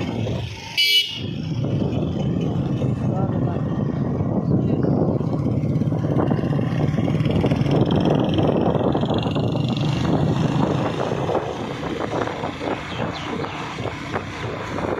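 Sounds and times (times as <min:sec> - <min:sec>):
tyre and wind noise: 0:00.0 - 0:14.9
vehicle engine running: 0:00.0 - 0:14.9.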